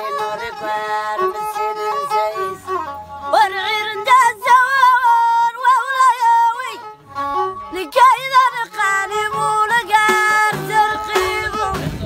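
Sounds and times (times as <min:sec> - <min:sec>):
woman singing: 0:00.0 - 0:06.9, 0:07.7 - 0:12.0
bowed violin melody: 0:00.0 - 0:12.0.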